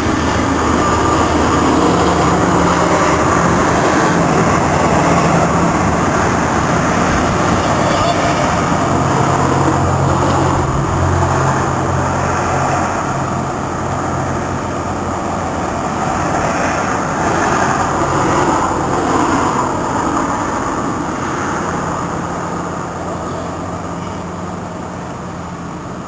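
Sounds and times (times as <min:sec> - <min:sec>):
low engine hum: 0:00.0 - 0:26.0
passing vehicles rushing: 0:00.0 - 0:26.0.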